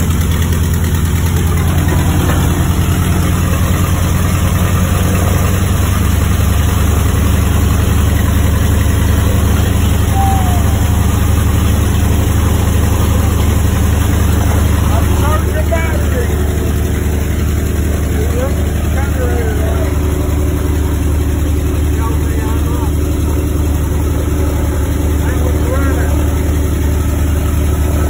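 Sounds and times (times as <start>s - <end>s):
radial aircraft engine idling: 0.0s - 28.0s.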